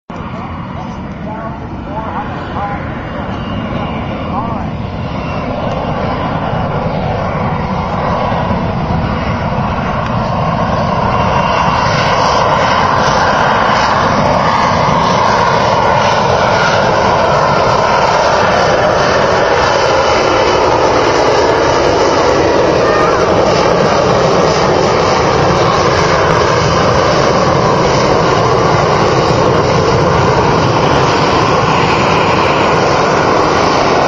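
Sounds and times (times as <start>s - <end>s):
airplane engine roar: 0.1s - 34.0s.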